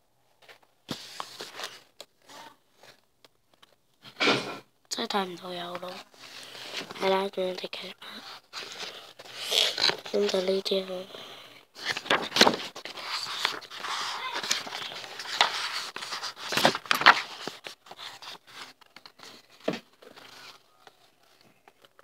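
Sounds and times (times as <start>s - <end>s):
magazine pages rustling: 0.4s - 3.8s, 5.6s - 22.0s.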